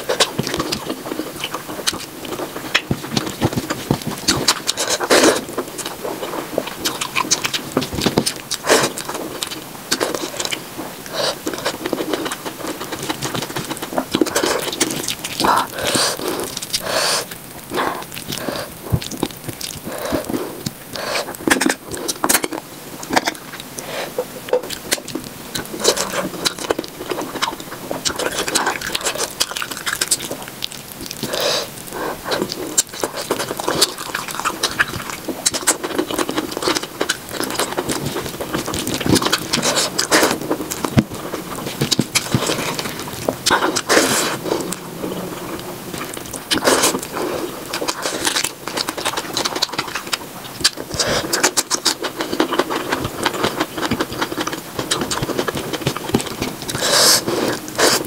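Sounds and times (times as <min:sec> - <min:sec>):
lip smacking: 0:00.0 - 0:58.0
wet chewing: 0:00.0 - 0:58.0.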